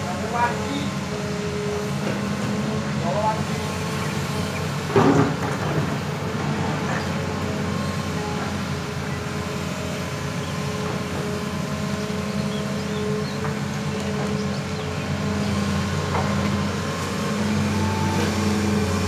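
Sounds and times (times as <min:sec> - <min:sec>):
excavator engine and hydraulics: 0:00.0 - 0:19.0.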